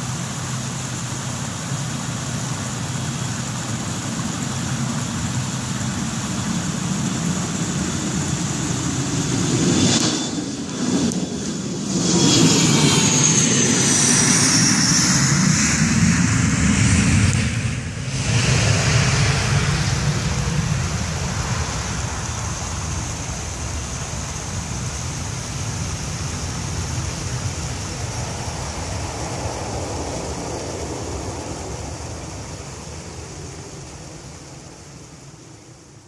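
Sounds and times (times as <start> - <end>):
jet engines at takeoff: 0.0 - 36.0.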